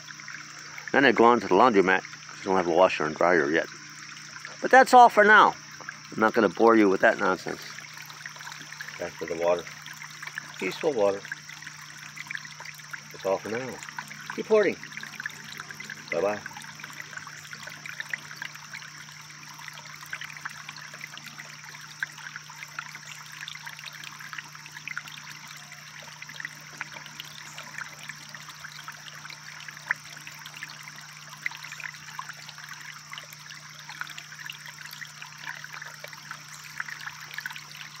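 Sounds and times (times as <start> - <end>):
brook trickling over rocks: 0.0 - 38.0.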